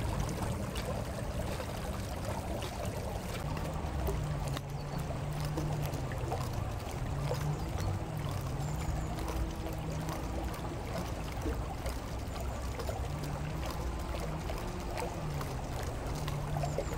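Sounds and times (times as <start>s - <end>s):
river water splashing: 0.0s - 16.9s.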